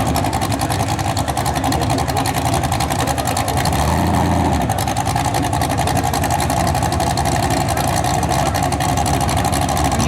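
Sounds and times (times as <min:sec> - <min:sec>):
tractor engine running hard: 0:00.0 - 0:10.0.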